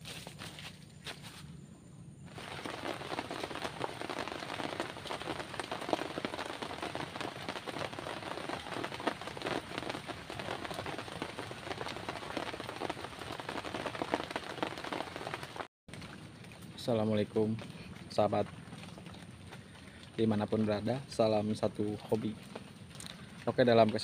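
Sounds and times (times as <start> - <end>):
steady rainfall: 2.3 - 24.0.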